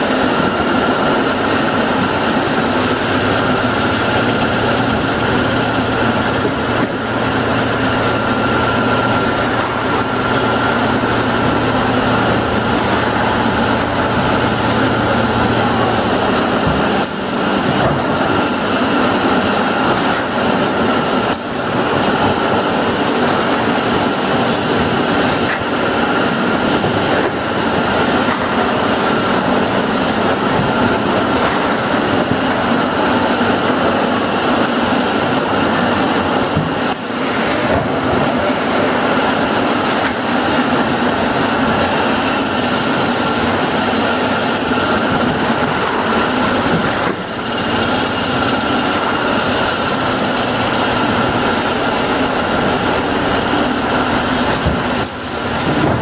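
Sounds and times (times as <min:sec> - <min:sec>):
packing machinery clatter and hum: 0:00.0 - 0:56.0.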